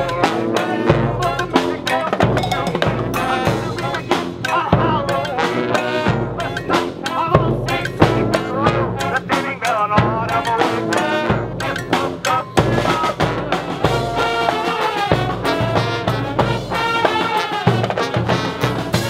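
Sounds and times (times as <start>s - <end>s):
brass horns playing a melody: 0.0s - 19.0s
steady drum beat: 0.0s - 19.0s.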